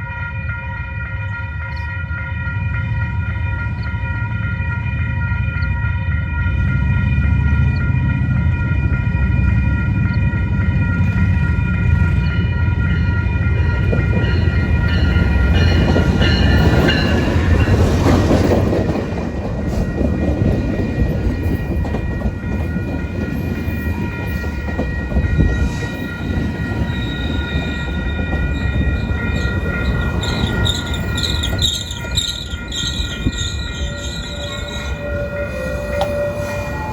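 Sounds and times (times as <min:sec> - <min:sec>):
train rumbling past: 0:00.0 - 0:36.9.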